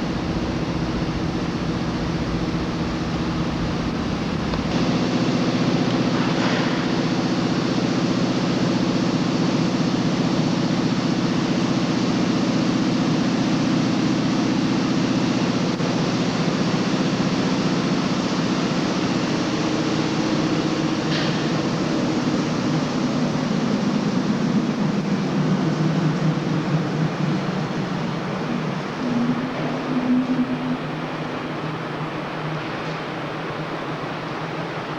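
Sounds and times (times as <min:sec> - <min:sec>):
subway train rumbling: 0:00.0 - 0:34.9.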